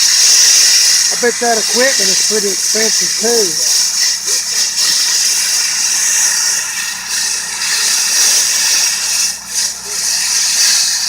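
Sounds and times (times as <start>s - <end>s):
blasting nozzle hissing: 0.0s - 11.0s.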